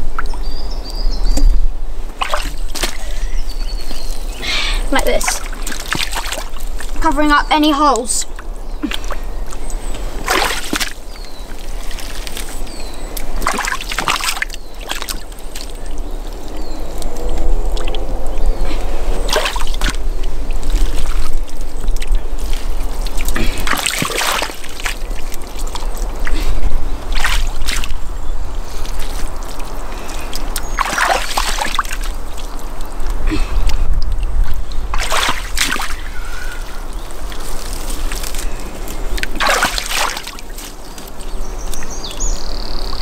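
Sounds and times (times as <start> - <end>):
water trickling: 0.0 - 43.0
wet mud splashing and sloshing: 1.3 - 43.0.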